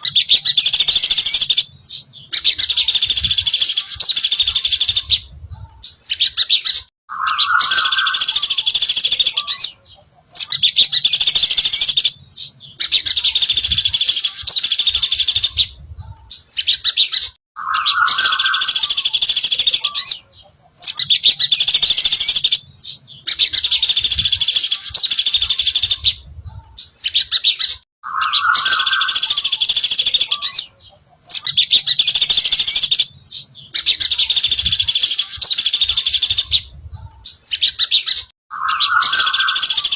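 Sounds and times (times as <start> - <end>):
songbird trilling: 0.0 - 39.9.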